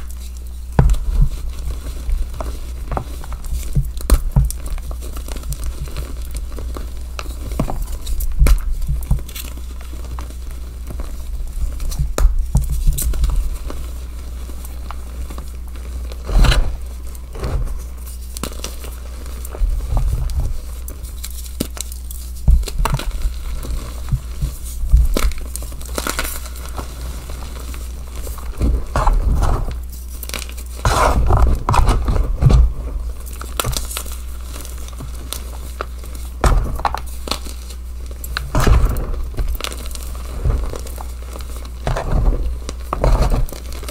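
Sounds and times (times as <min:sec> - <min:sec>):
chalk crunching and crackling: 0:00.0 - 0:43.9
steady low hum: 0:00.0 - 0:43.9.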